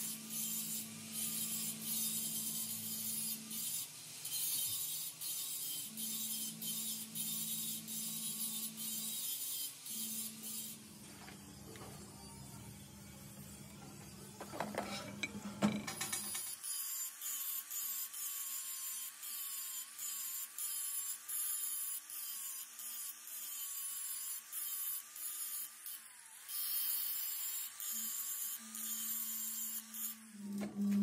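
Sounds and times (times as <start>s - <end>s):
angle grinder grinding metal: 0.0s - 12.5s, 13.2s - 31.0s.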